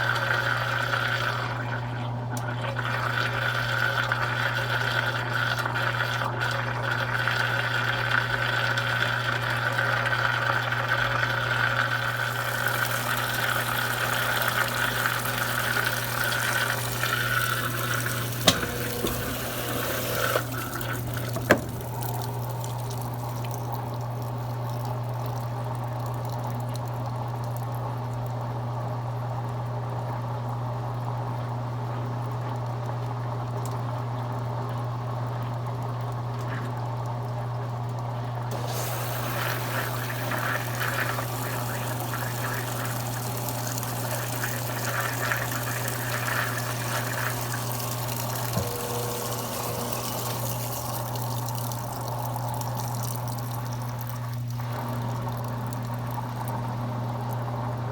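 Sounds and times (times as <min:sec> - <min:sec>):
washing machine hum: 0:00.0 - 0:57.9
water running in washing machine: 0:00.0 - 0:57.9.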